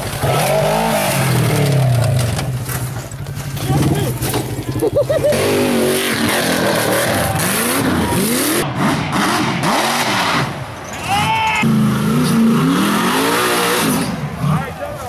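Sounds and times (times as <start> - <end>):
buggy engines revving: 0.0 - 15.0.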